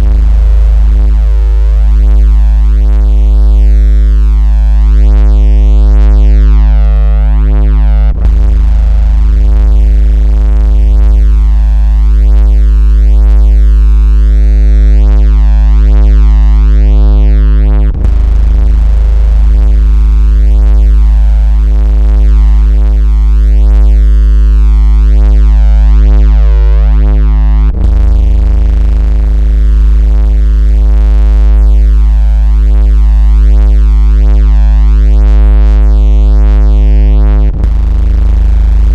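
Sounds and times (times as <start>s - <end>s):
low synthesized buzzing tone: 0.0s - 38.9s.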